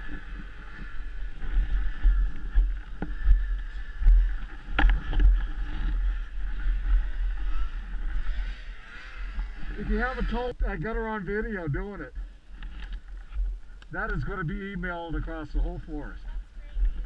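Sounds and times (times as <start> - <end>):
handling rumble: 0.0 - 15.4.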